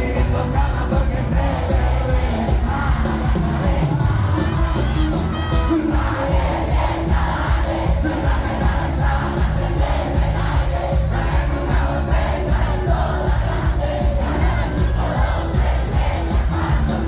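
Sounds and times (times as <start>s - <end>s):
crowd shouting and singing along: 0.0s - 17.0s
live band playing with deep bass: 0.0s - 17.0s.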